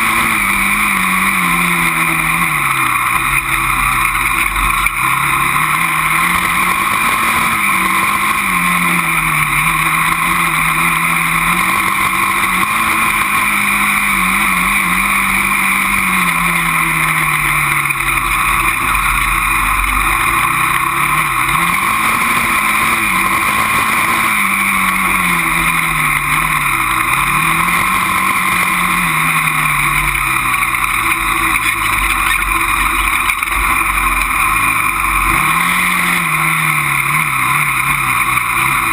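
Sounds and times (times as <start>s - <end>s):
quad engine revving: 0.0s - 38.9s
steady rushing noise: 0.0s - 38.9s.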